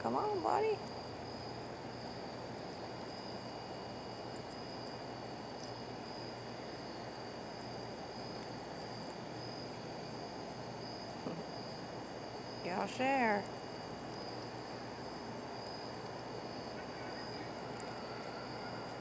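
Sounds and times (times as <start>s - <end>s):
low background hiss: 0.0s - 19.0s
night insects chorus: 0.0s - 19.0s.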